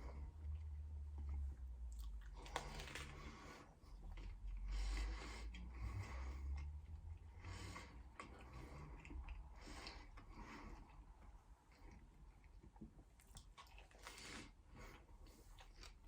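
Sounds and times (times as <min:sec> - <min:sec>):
man chewing food: 0:00.0 - 0:16.0.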